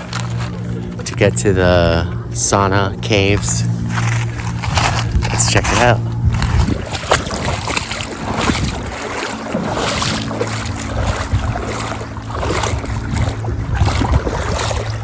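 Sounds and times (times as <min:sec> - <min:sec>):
water splashing: 0:00.0 - 0:15.0
wind buffeting microphone: 0:00.0 - 0:15.0.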